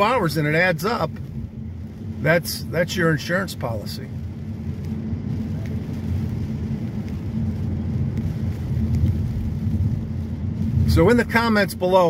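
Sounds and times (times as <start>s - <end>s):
car cabin rumble: 0.0s - 12.0s
steady hum: 0.0s - 12.0s.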